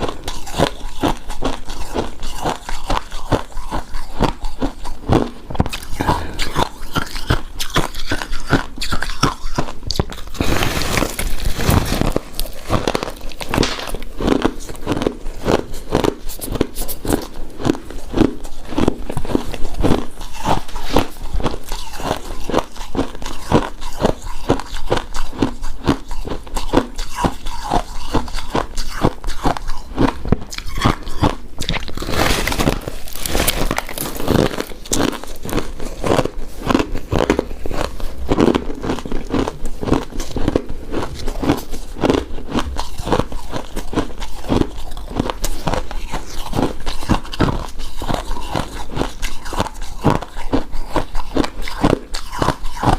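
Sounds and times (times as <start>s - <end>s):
chewing mouth sounds: 0.0s - 52.9s.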